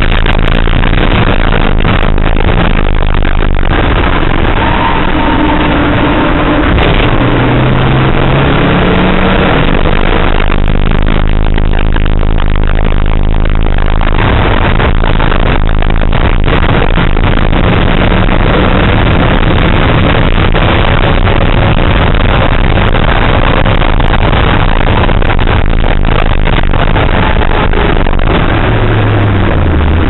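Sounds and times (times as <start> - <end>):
car engine at high revs: 0.0 - 30.0
road and wind noise: 0.0 - 30.0.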